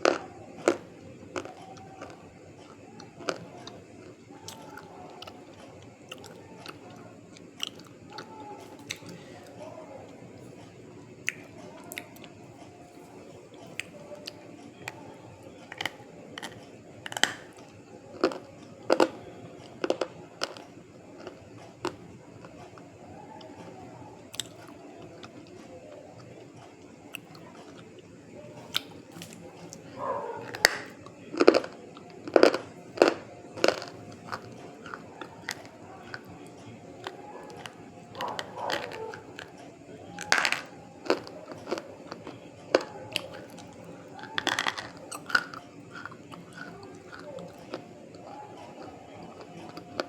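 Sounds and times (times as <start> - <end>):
crunchy chewing: 0.0 - 50.0.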